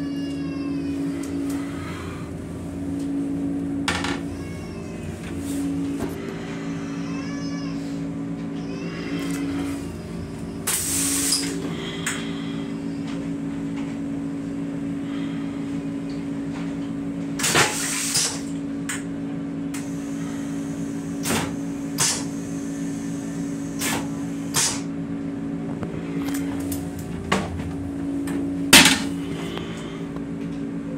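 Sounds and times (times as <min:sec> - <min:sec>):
steady hum: 0:00.0 - 0:30.9.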